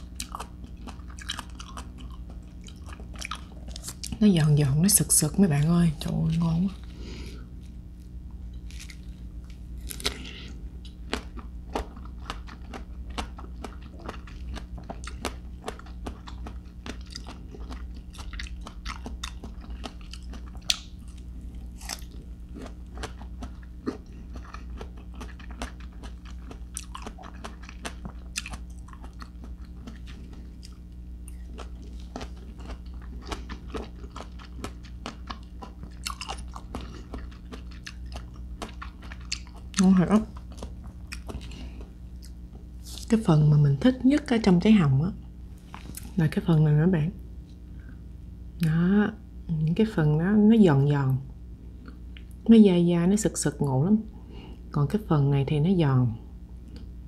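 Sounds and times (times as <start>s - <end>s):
person chewing crisp fruit: 0.0s - 43.5s, 45.4s - 46.2s, 51.6s - 52.4s, 56.3s - 57.0s.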